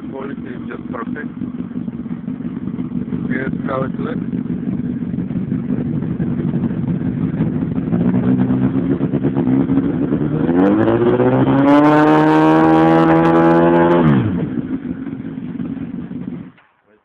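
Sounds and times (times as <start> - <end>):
motorcycle engine idling and revving: 0.0 - 16.8.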